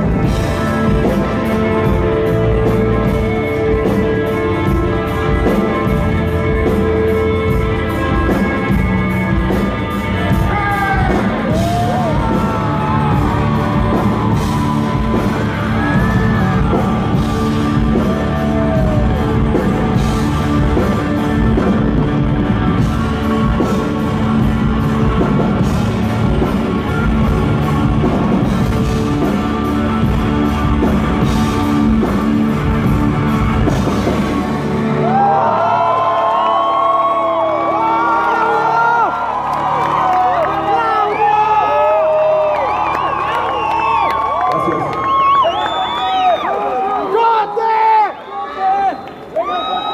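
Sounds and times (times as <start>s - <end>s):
live rock band playing: 0.0s - 44.3s.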